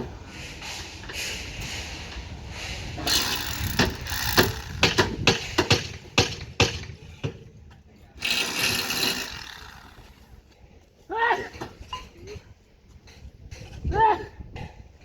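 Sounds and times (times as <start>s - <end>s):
construction knocks and scraping: 0.0s - 10.6s, 11.5s - 13.9s.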